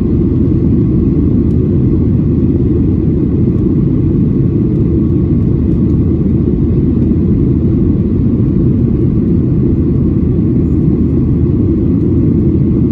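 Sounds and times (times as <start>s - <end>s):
airliner cabin engine rumble: 0.0s - 12.9s.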